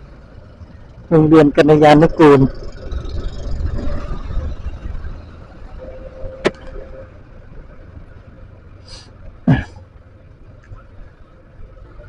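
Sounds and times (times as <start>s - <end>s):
scooter engine and road rumble: 0.0s - 12.0s.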